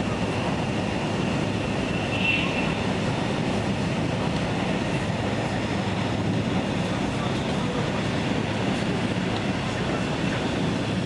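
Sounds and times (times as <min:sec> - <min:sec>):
train cabin low rumble: 0:00.0 - 0:11.0.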